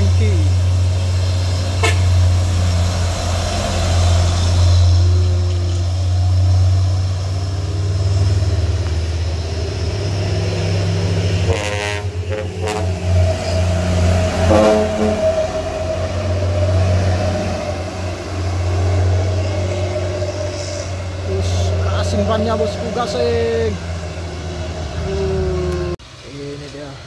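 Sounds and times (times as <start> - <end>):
diesel truck engine labouring: 0.0 - 27.0.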